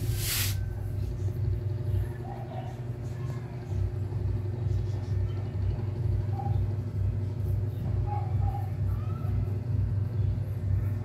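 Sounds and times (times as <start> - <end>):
blower pulsing rumble: 0.0 - 11.0.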